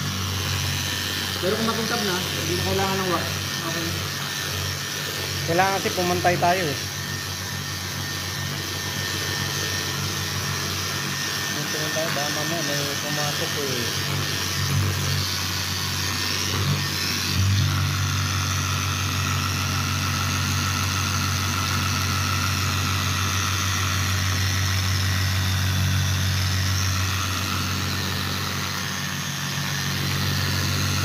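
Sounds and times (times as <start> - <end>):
angle grinder polishing wet surface: 0.0 - 31.0.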